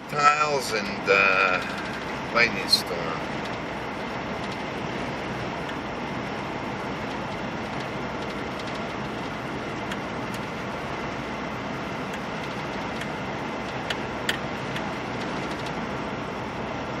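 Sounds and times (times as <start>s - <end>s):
vehicle road noise: 0.0s - 17.0s.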